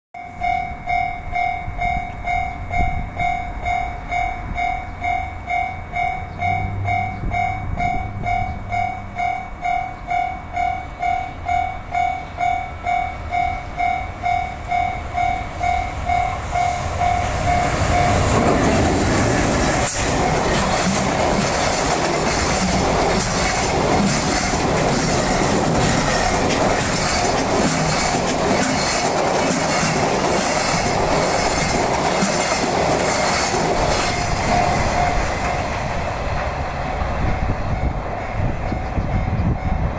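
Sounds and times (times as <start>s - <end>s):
freight train passing at speed: 0.2s - 39.9s.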